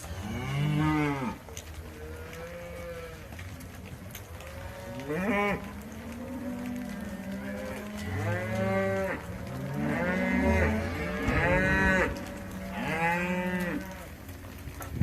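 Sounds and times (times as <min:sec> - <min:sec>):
cattle mooing: 0:00.0 - 0:14.3.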